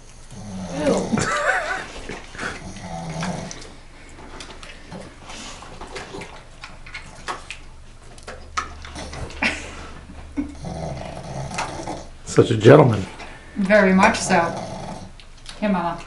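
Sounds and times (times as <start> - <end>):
dogs licking: 0.0 - 12.1, 12.7 - 16.0.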